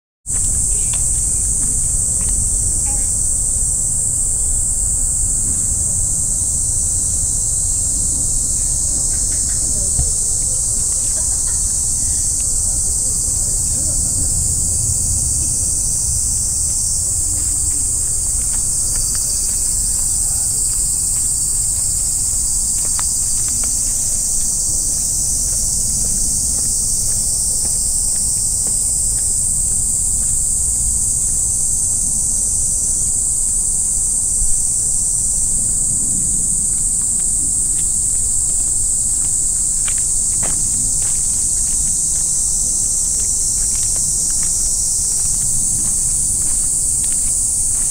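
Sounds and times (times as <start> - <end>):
high-pitched insect chorus: 0.3 - 47.9
wind rumble on microphone: 0.3 - 47.9.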